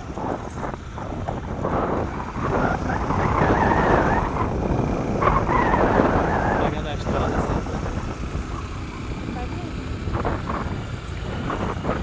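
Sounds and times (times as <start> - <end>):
vehicle rumble: 0.0 - 12.0
wind buffeting microphone: 0.0 - 12.0.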